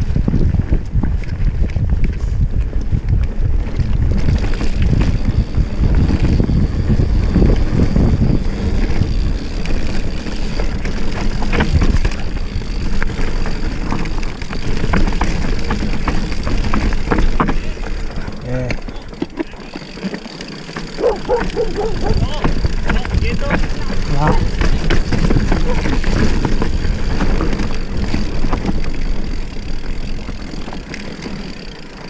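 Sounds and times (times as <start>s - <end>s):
wind buffeting microphone: 0.0s - 19.2s, 20.9s - 30.8s
bike rattling over rocks: 0.0s - 32.0s
bike tyres rolling on dirt: 0.0s - 32.0s.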